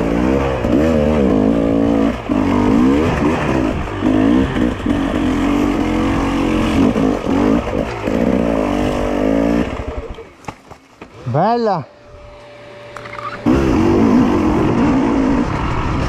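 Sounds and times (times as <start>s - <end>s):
motorcycle engine revving: 0.0s - 10.4s, 12.0s - 16.0s.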